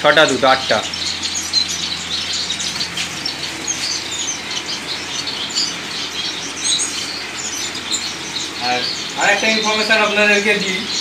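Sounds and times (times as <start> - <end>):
finches chirping: 0.0 - 11.0.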